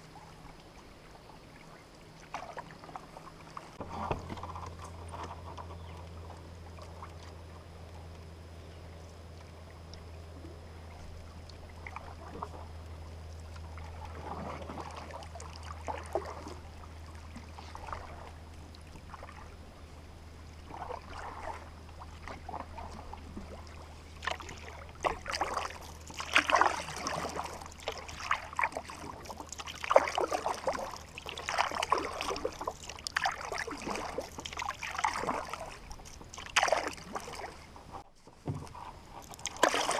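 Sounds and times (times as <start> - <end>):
paddle splashing in water: 0.0 - 7.4, 13.4 - 19.6, 20.6 - 39.9
steady low hum: 0.0 - 39.9.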